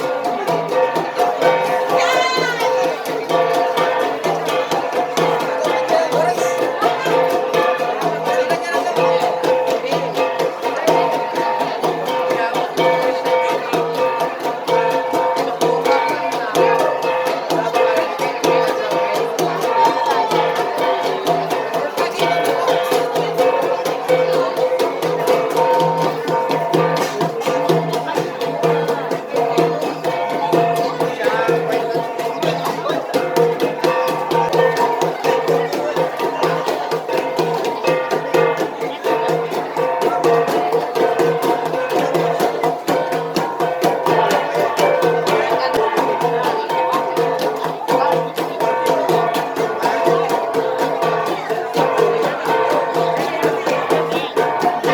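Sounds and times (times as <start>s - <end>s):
bronze gongs played in fast rhythm: 0.0s - 54.9s.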